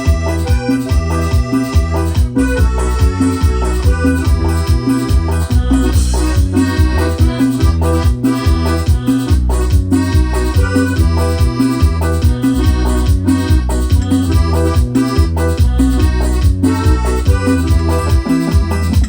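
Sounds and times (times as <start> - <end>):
electronic keyboard cumbia: 0.0 - 19.0.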